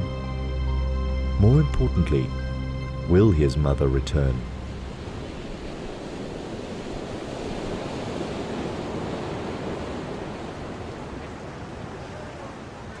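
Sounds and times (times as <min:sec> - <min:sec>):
ocean surf waves: 0:00.0 - 0:13.0.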